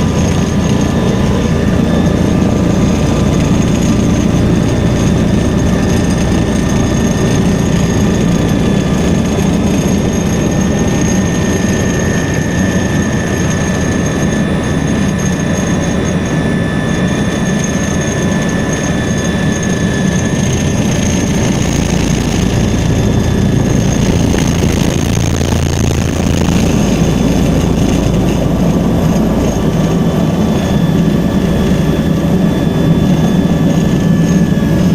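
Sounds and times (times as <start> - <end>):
helicopter engine and rotor noise: 0.0 - 34.9.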